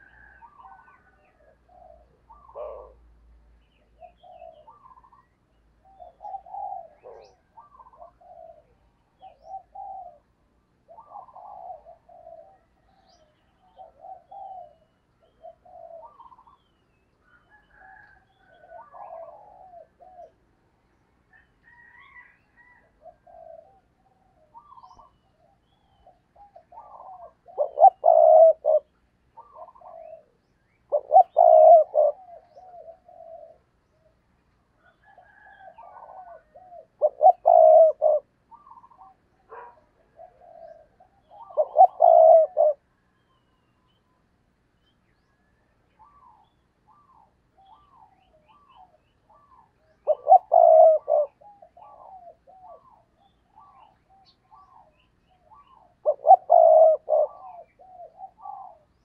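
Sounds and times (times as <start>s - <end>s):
dove cooing: 0.0s - 20.6s, 21.3s - 34.2s, 34.8s - 43.5s, 45.4s - 59.0s.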